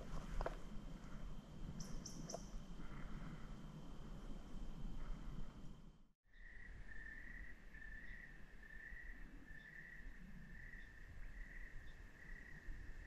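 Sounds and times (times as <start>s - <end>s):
faint crickets chirping: 0.0s - 13.0s.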